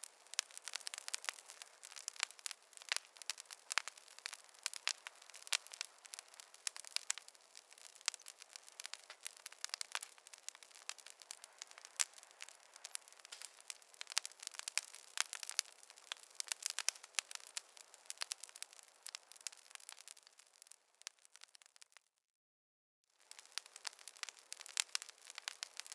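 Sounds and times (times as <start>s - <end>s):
campfire crackling: 0.0s - 22.0s, 23.2s - 25.9s.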